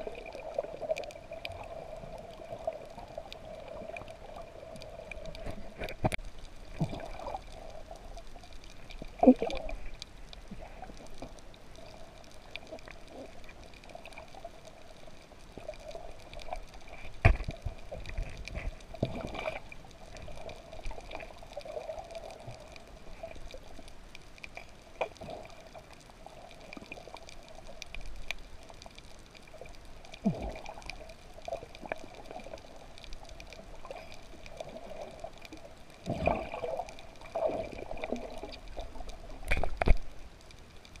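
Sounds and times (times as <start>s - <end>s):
muffled underwater bubbling: 0.0s - 23.9s, 29.4s - 40.2s.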